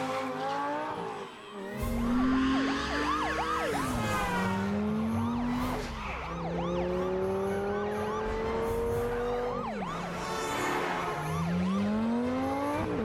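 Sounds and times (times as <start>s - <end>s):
sports car engine accelerating: 1.8s - 13.0s
police siren yelping: 1.9s - 13.0s.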